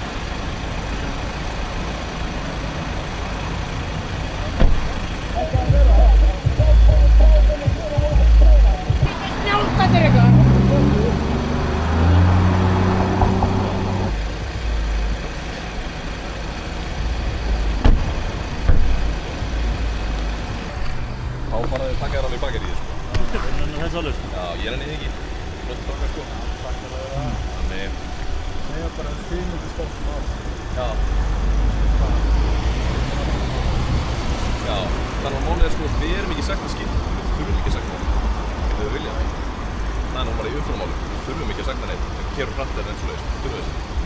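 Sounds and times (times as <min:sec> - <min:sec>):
low vehicle rumble: 0:00.0 - 0:44.0.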